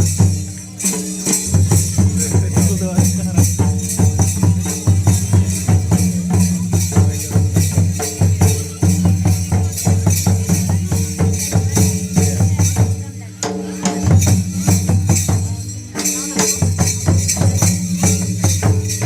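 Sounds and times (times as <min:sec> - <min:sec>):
drum strokes: 0:00.0 - 0:19.0
jingling tambourine-like shimmer: 0:00.0 - 0:19.0.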